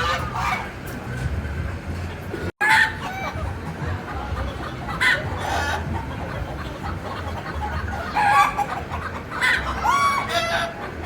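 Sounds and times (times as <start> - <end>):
birds calling: 2.1 - 11.0.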